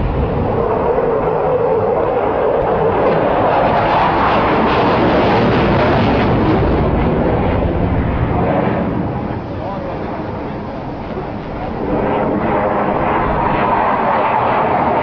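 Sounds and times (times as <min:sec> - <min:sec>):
fighter jet flying low: 0:00.0 - 0:15.0.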